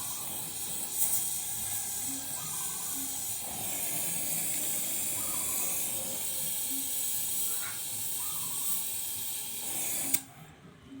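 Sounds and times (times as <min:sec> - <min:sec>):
arc welding hiss: 0:00.0 - 0:10.2.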